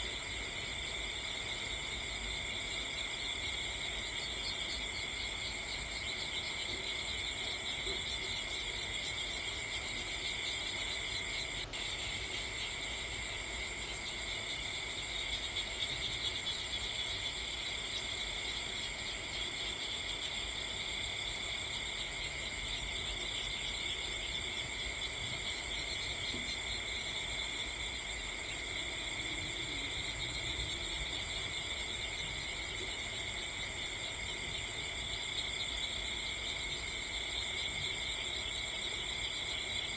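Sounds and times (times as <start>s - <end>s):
crickets chirring: 0.0s - 39.9s
low background hiss: 0.0s - 39.9s.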